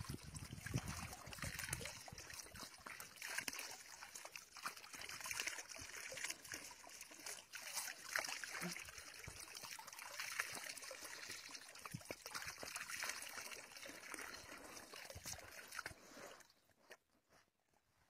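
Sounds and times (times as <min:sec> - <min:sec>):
sharp splashes: 0:00.0 - 0:16.4
hose water splashing into pool: 0:00.0 - 0:17.0.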